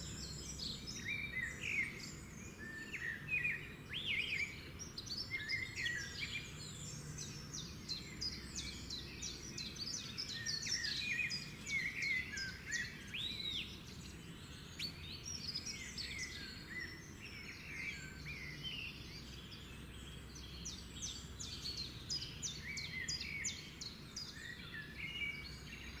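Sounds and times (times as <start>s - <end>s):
many birds chirping: 0.0s - 26.0s.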